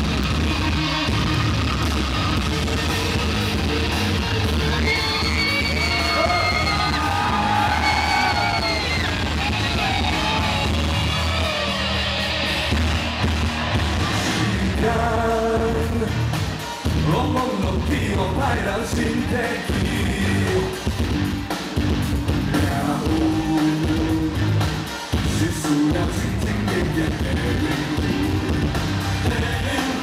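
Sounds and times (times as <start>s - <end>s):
crowd yelling and singing: 0.0s - 30.0s
live rock band playing: 0.0s - 30.0s.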